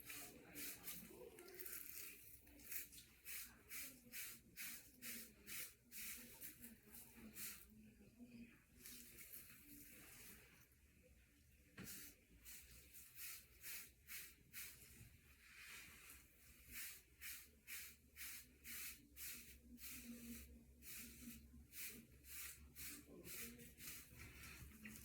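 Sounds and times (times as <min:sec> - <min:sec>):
brush swishing through hair: 0:00.0 - 0:07.7, 0:08.8 - 0:10.6, 0:11.8 - 0:25.0.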